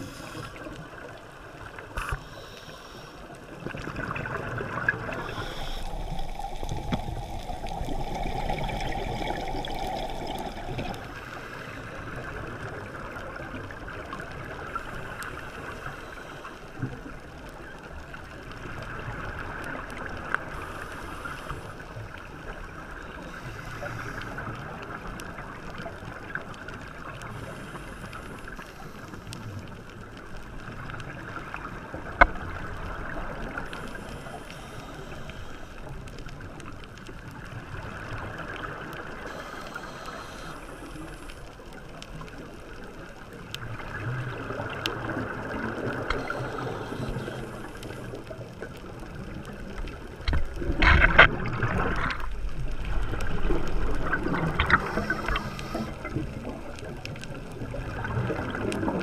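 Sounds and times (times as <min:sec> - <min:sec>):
muffled underwater water noise: 0:00.0 - 0:59.0.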